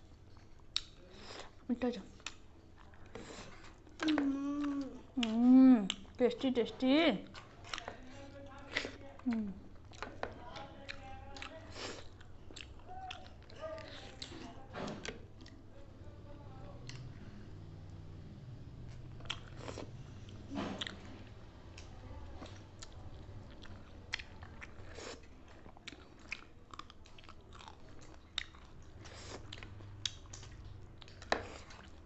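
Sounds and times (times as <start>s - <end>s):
chewing with crunches: 0.0s - 6.2s, 7.2s - 15.7s, 18.8s - 32.0s
low steady hum: 0.0s - 32.0s.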